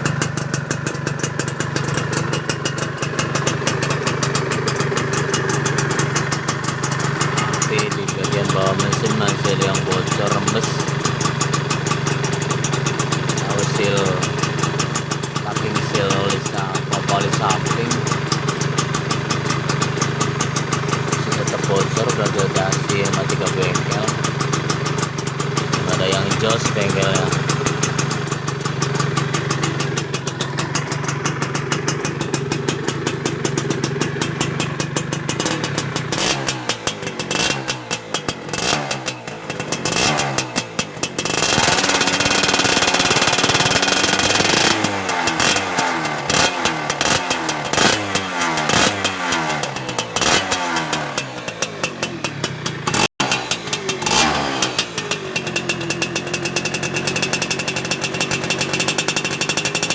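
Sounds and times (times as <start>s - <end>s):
two-stroke engine revving: 0.0s - 59.9s.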